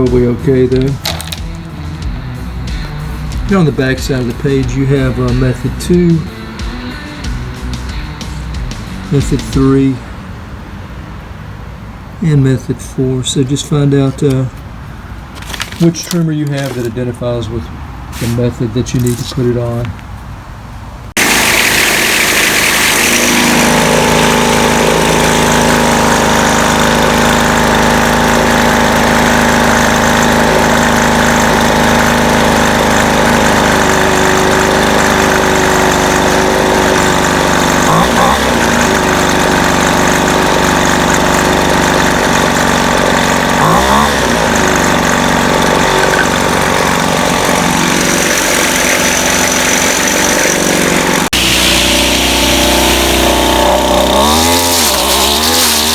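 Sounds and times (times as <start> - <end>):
string trimmer engine idling: 0.0 - 9.7, 13.8 - 17.2, 21.2 - 55.9.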